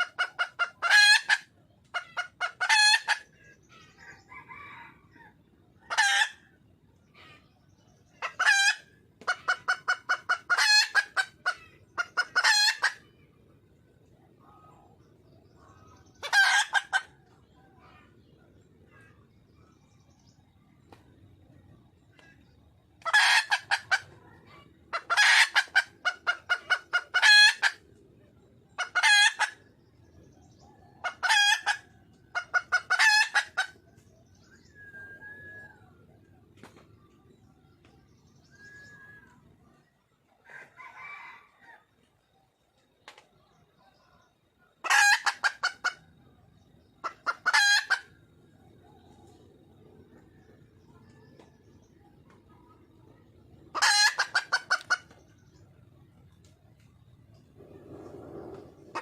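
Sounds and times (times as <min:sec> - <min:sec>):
junglefowl hen calling: 0:00.0 - 0:13.3, 0:14.0 - 0:41.8, 0:43.8 - 0:46.2, 0:47.0 - 0:55.6, 0:57.5 - 0:59.0
hen clucking: 0:00.0 - 0:41.8, 0:43.0 - 0:55.8, 0:57.3 - 0:59.0.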